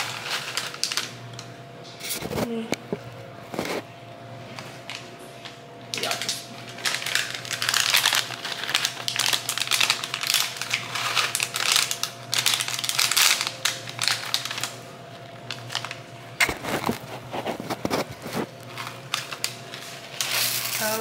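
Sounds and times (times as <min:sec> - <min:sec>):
foil packet crinkling: 0:00.0 - 0:02.5, 0:04.8 - 0:21.0.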